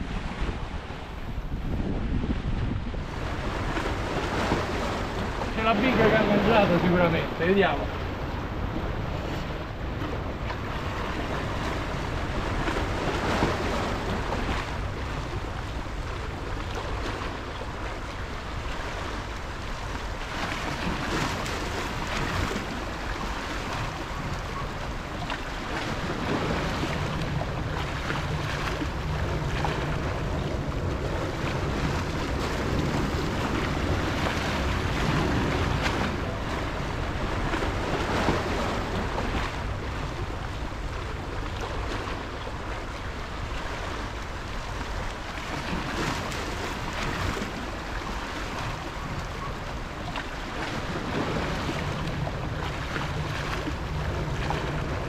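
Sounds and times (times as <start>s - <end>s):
waves breaking on rocks: 0.0s - 55.0s
wind buffeting microphone: 0.0s - 55.0s.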